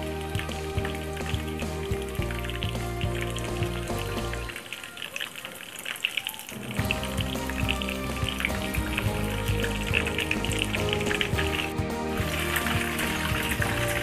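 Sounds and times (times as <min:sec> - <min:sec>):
background music: 0:00.0 - 0:14.0
cutlet sizzling in oil: 0:00.0 - 0:14.0.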